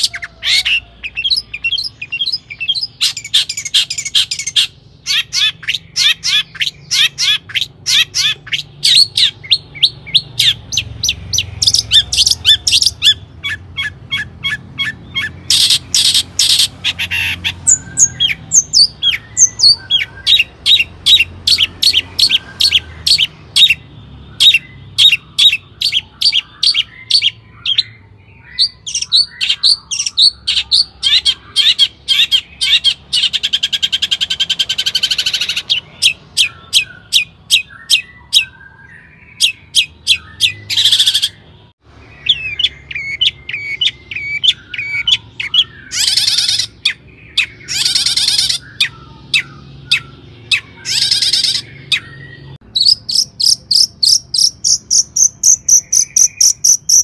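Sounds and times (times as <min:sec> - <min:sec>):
shrike singing: 0:00.0 - 0:57.0.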